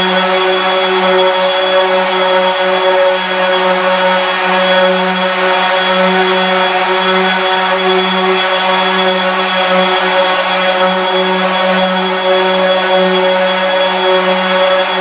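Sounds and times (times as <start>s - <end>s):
electric sander running: 0.0s - 15.0s.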